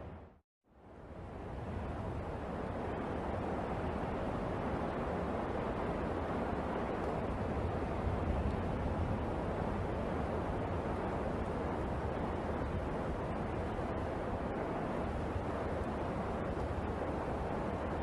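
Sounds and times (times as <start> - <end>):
steady rushing noise: 1.0 - 18.0.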